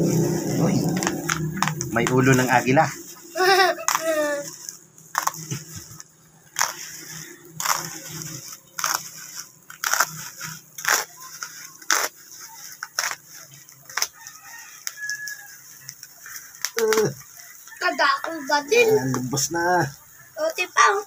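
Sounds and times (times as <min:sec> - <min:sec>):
utility knife cutting bubble wrap: 0:00.0 - 0:17.6.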